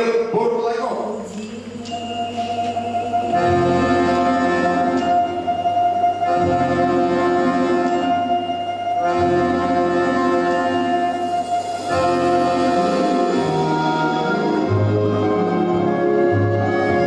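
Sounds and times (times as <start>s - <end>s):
orchestra playing slow chords: 1.7s - 17.0s.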